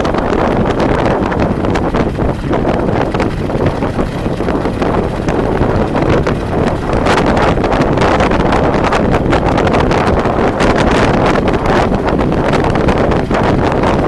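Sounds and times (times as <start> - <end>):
vehicle road rumble: 0.0 - 14.0
wind buffeting microphone: 0.0 - 14.0.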